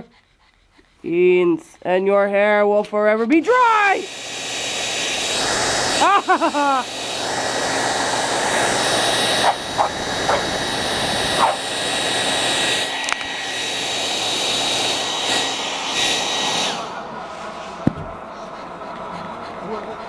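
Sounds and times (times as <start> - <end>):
hair dryer blowing: 1.9 - 20.0.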